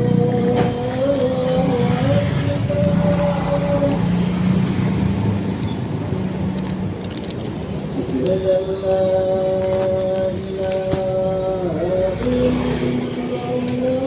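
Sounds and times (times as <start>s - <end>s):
motor vehicle running: 0.0s - 14.0s
road traffic noise: 0.0s - 14.0s.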